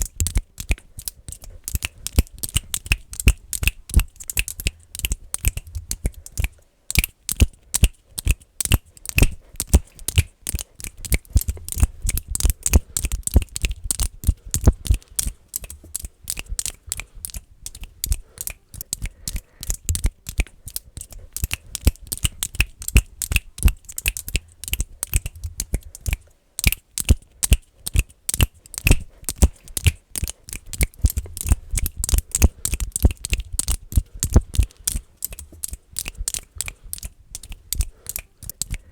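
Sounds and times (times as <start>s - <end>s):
rapid finger clicking: 0.0s - 38.9s.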